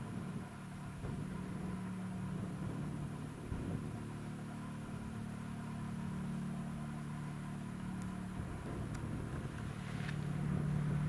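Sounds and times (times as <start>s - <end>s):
distant helicopter drone: 0.0s - 11.0s.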